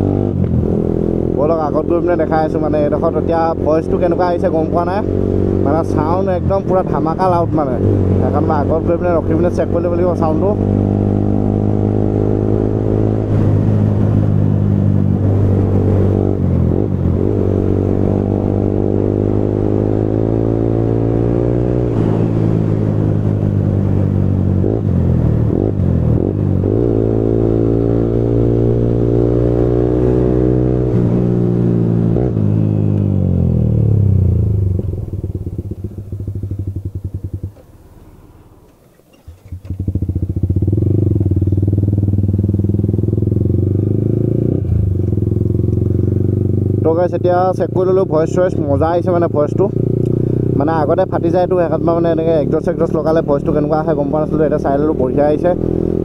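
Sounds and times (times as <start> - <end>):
loud motorcycle engine revving: 0.0 - 37.6, 39.4 - 56.0.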